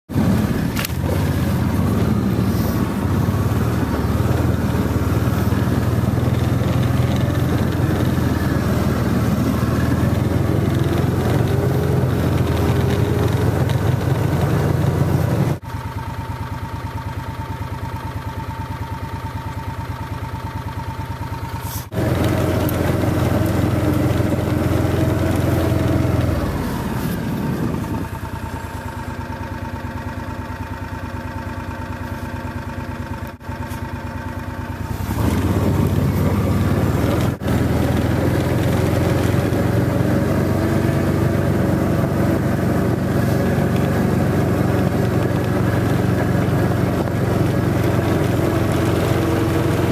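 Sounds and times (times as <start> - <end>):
utility vehicle engine running: 0.0 - 49.9.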